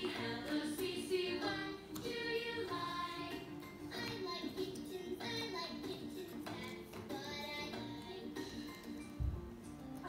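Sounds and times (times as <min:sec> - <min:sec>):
background music with singing: 0:00.0 - 0:10.0.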